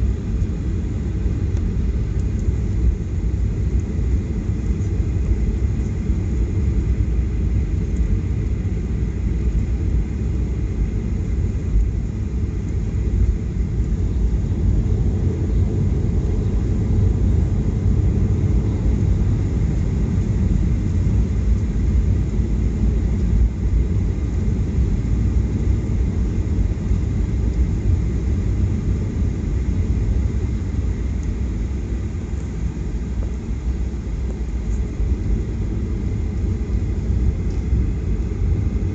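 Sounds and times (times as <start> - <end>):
airliner cabin low rumble: 0.0 - 38.9.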